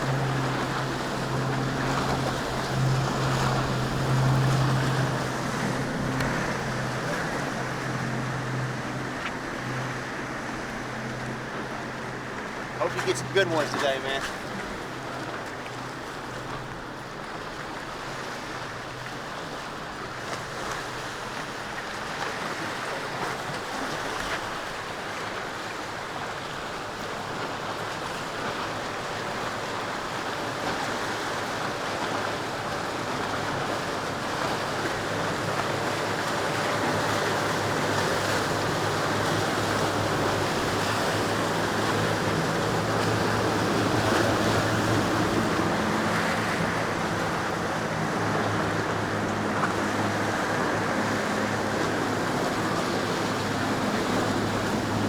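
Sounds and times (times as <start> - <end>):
boat engines droning: 0.0 - 55.0
waves and surf rushing: 0.0 - 55.0.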